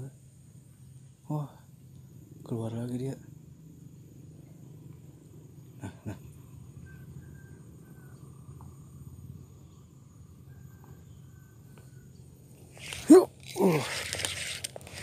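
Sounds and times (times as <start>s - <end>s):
high insect whine: 0.0s - 15.0s.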